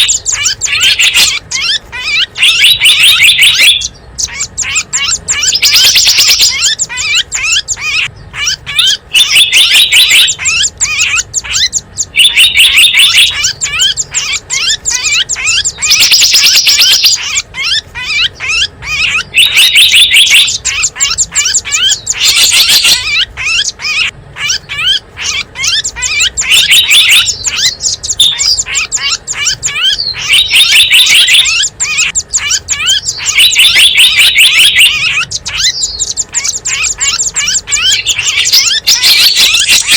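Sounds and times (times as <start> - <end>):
dense burst of twittering: 0.0 - 39.9
small birds chirping: 0.0 - 39.9.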